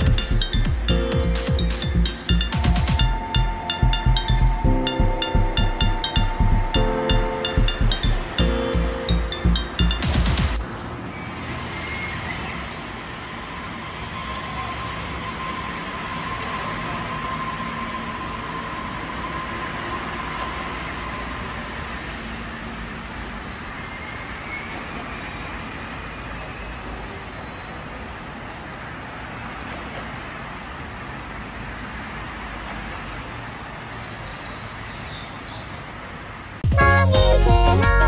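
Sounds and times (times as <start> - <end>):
monorail train rumbling: 0.0 - 34.7.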